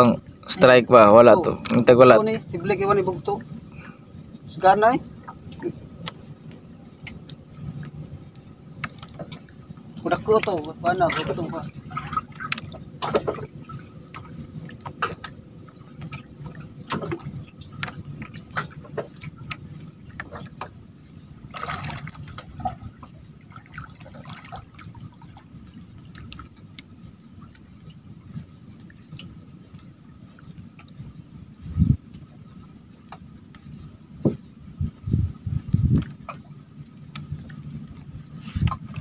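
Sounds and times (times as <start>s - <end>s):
water lapping against boat: 0.0s - 39.0s.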